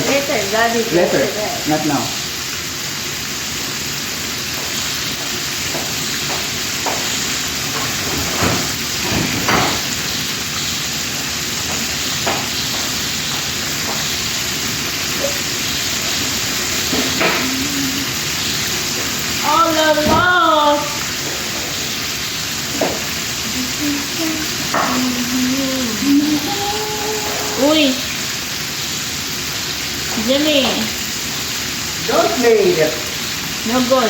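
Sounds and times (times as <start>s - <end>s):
chicken sizzling in hot oil: 0.0s - 34.0s.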